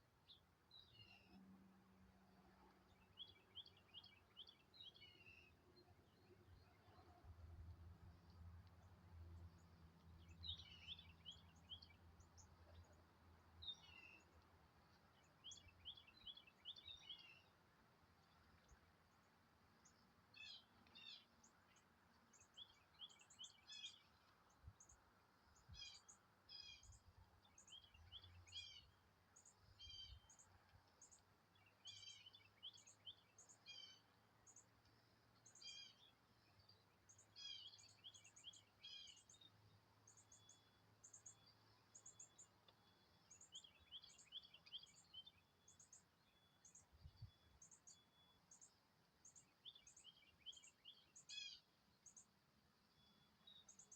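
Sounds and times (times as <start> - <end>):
songbird chirping and singing: 0.2 - 17.6, 18.2 - 53.9.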